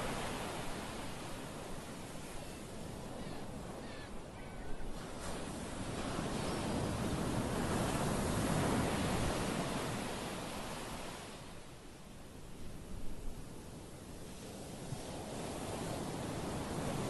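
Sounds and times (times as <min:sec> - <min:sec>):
surf breaking on a beach: 0:00.0 - 0:11.8, 0:12.7 - 0:17.0.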